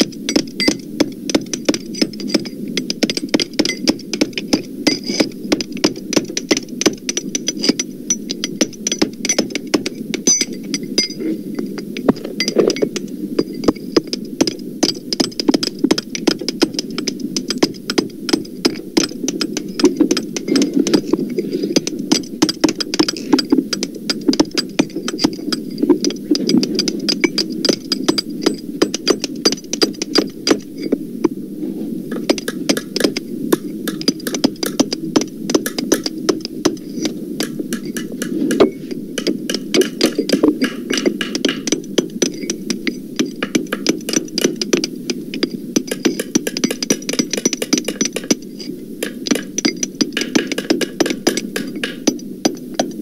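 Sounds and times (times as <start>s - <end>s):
hammers striking in a clatter: 0.0s - 31.0s, 32.1s - 48.4s, 49.0s - 53.0s
steady low hum: 0.0s - 53.0s.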